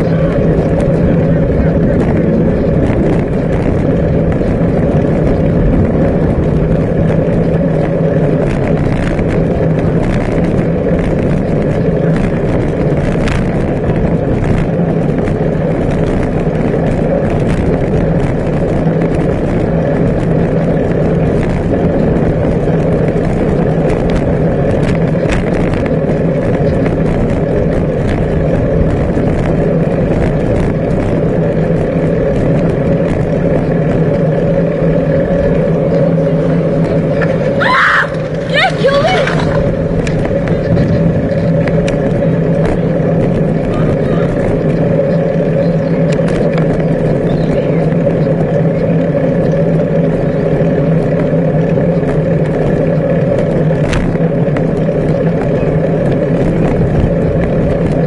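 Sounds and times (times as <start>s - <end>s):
bicycle tyres rumbling on tarmac: 0.0s - 58.0s
low hum: 0.0s - 58.0s
small ticks and rattles: 0.0s - 58.0s
wind rushing over microphone: 0.0s - 58.0s.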